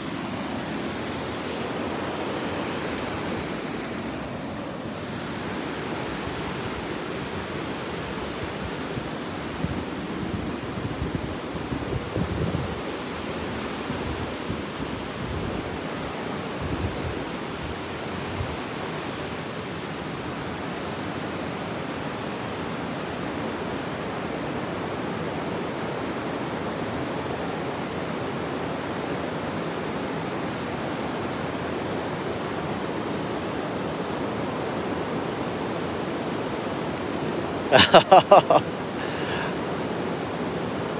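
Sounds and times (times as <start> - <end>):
stream rushing among boulders: 0.0 - 40.9.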